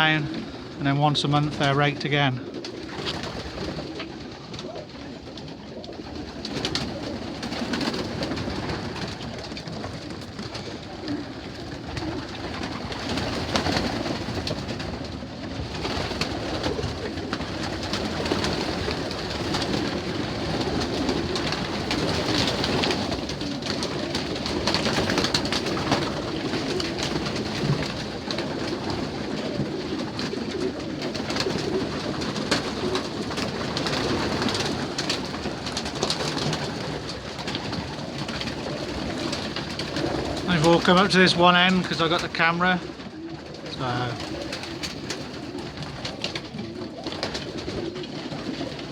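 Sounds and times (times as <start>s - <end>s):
pigeons cooing: 0.0s - 48.9s.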